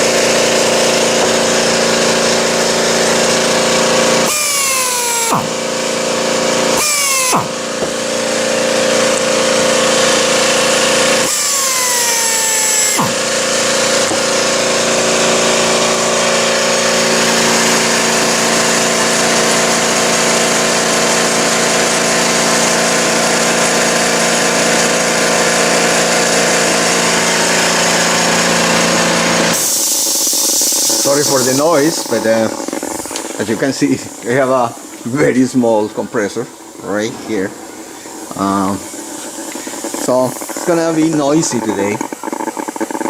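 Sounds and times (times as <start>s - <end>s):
air compressor running: 0.0s - 43.0s.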